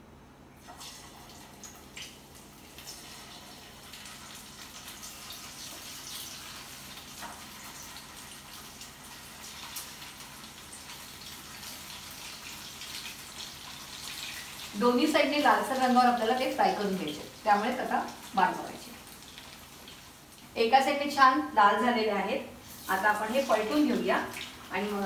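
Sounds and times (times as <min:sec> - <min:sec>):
cutlets sizzling in oil: 0:00.6 - 0:25.0.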